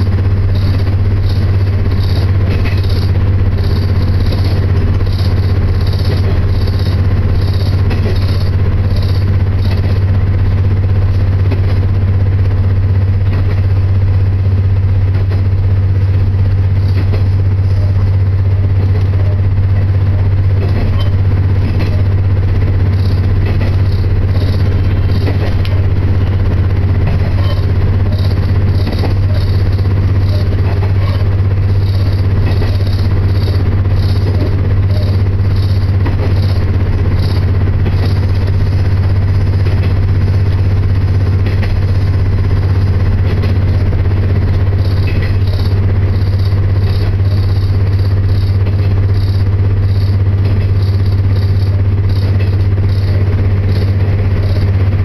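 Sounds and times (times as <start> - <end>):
pulsing high hiss: 0.0 - 12.0, 21.1 - 55.0
low engine drone: 0.0 - 55.0
train rumble: 0.0 - 55.0.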